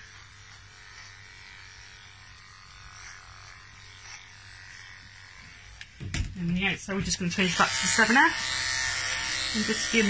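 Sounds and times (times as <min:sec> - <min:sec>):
dog clipper buzzing: 0:00.0 - 0:10.0.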